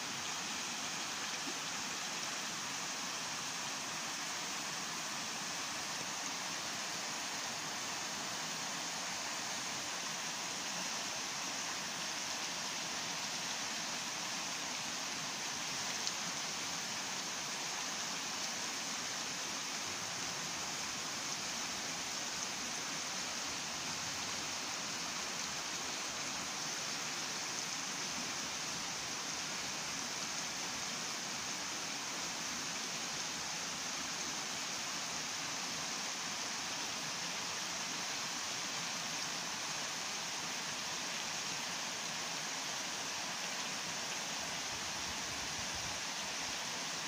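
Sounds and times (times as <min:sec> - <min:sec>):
stream running over rocks: 0:00.0 - 0:47.0.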